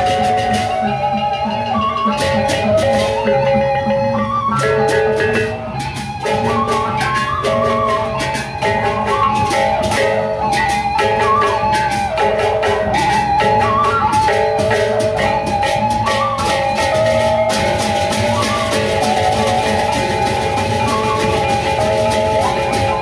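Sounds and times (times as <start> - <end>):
drums: 0.0 - 23.0
gongs: 0.0 - 23.0
sustained melodic line: 0.0 - 23.0.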